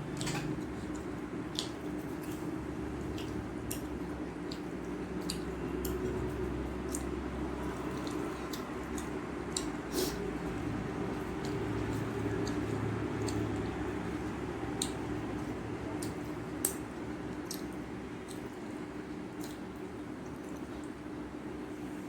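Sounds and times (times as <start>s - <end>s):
wet chewing clicks and squishes: 0.0s - 21.2s
steady low hum: 0.0s - 22.0s.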